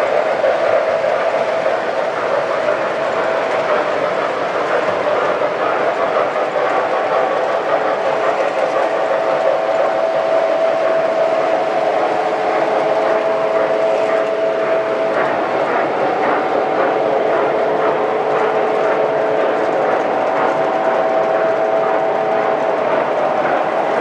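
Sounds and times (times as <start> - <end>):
rail joint clicks: 0.0 - 24.0
toy train motors whirring: 0.0 - 24.0
wheels rumbling on track: 0.0 - 24.0.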